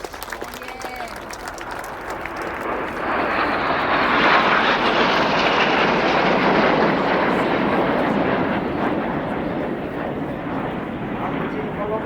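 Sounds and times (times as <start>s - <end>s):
jets flying past: 0.1s - 12.0s.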